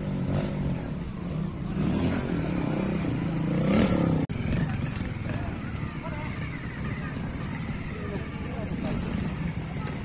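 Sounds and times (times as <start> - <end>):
motorcycle engine revving: 0.0 - 6.5, 8.2 - 10.0.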